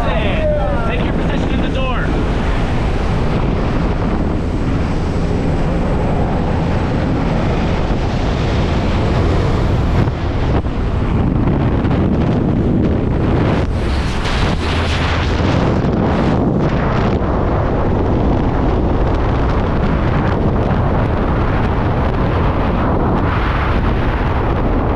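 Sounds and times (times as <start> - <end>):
aircraft engine noise: 0.0 - 24.9
wind buffeting microphone: 0.0 - 24.9
wind rushing: 0.0 - 24.9.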